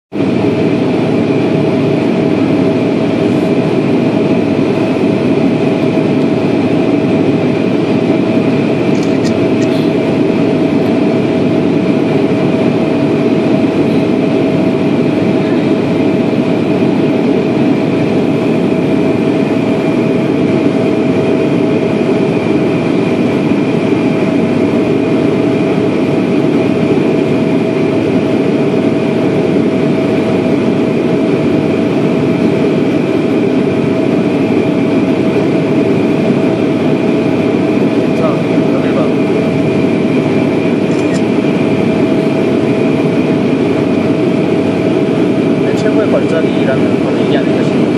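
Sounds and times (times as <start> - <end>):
airliner cabin engine drone: 0.1 - 47.9
steady whine: 0.2 - 47.9.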